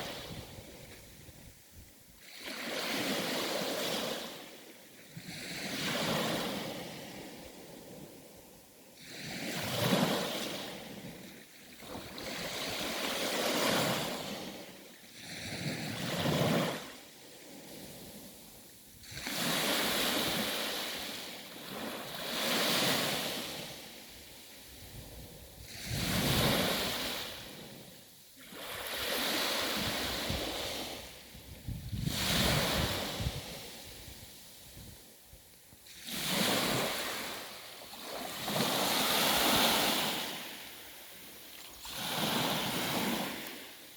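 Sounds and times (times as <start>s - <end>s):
sea waves breaking on shore: 0.0s - 35.2s, 35.8s - 43.9s.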